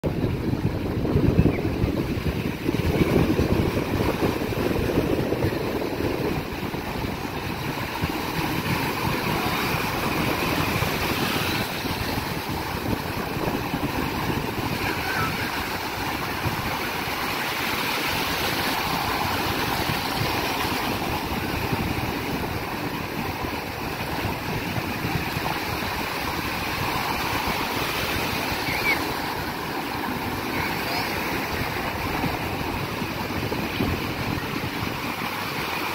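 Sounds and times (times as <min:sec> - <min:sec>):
wind buffeting microphone: 0:00.0 - 0:35.9
small waves washing on sand: 0:00.1 - 0:35.9.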